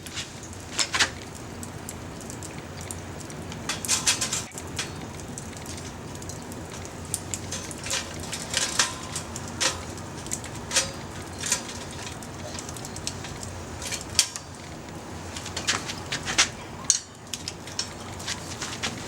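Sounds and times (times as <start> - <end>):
low steady hiss: 0.0 - 19.0
wood fire crackling and popping: 0.0 - 19.0.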